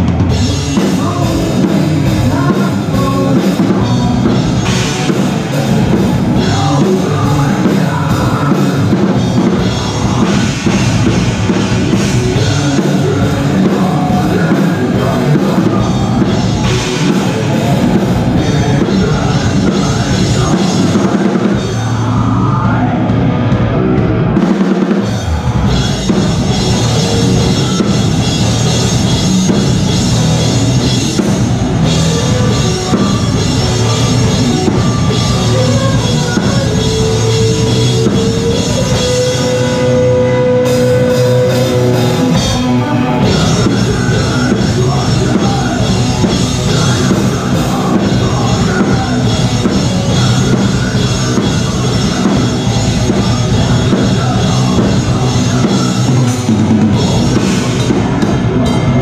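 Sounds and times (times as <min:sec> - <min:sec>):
fast drumming with cymbals: 0:00.0 - 0:59.0
live metal band playing: 0:00.0 - 0:59.0.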